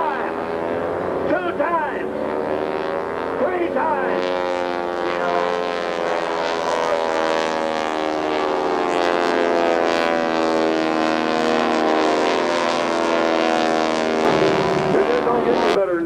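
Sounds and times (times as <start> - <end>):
biplane engines droning: 0.0 - 16.0.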